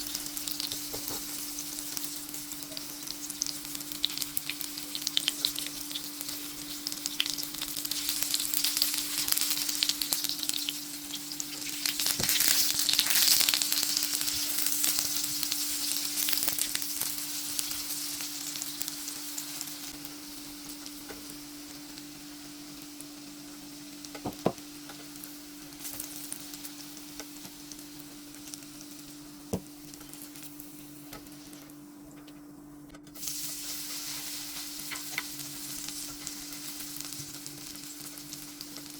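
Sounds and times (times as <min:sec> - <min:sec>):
food sizzling in frying pan: 0:00.0 - 0:38.9.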